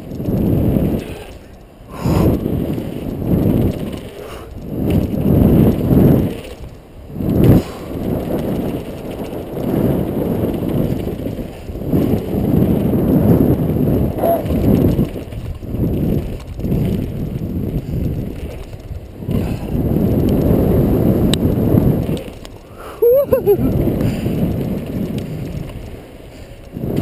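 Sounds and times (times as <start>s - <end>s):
bike and tyre rattle: 0.0s - 27.0s
wind rumble on microphone: 0.0s - 27.0s.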